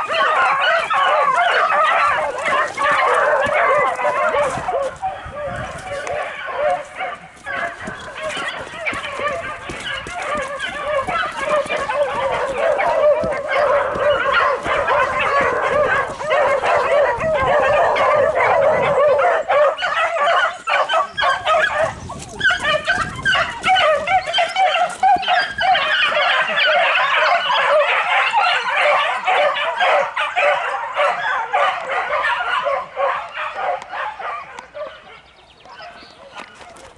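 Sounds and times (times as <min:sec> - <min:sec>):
pack of hounds baying: 0:00.0 - 0:36.9.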